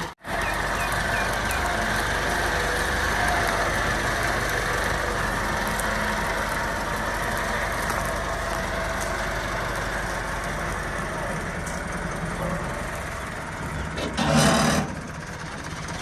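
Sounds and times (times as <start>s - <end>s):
tractor diesel engine drone: 0.0s - 16.0s.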